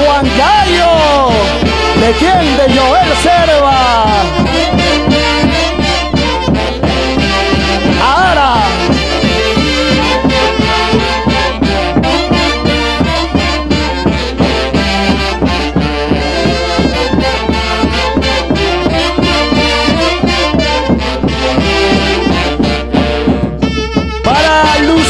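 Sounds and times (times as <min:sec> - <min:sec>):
live orchestra music with beat: 0:00.0 - 0:25.0.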